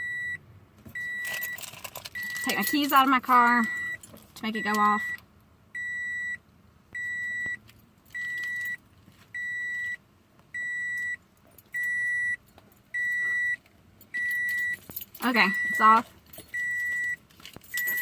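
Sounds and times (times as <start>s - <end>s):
car warning chime beeping: 0.0s - 6.4s, 7.0s - 18.0s.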